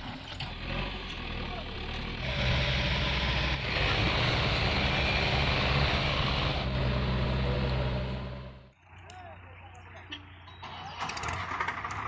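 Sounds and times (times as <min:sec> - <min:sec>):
diesel engines running under load: 0:00.0 - 0:12.0.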